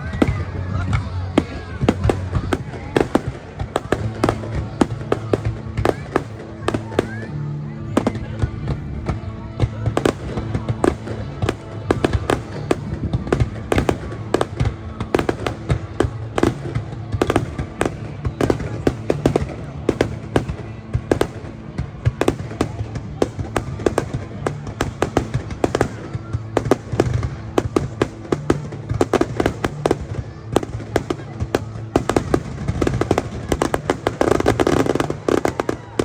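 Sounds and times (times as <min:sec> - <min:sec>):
fireworks exploding: 0:00.0 - 0:36.0
music playing: 0:00.0 - 0:36.0.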